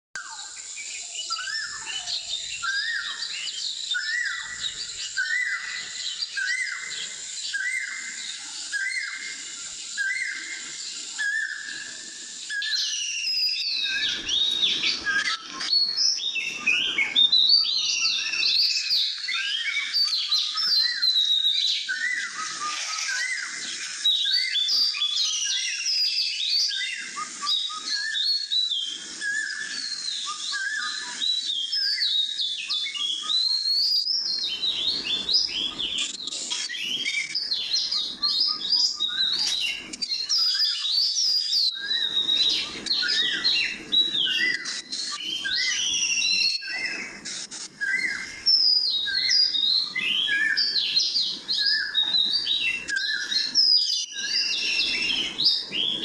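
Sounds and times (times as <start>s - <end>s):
bird chirp: 0.2s - 56.0s
birds singing: 0.2s - 56.0s.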